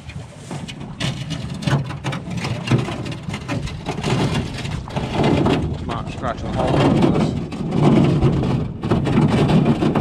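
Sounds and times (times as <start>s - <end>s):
boat hull scraping and knocking: 0.0s - 10.0s.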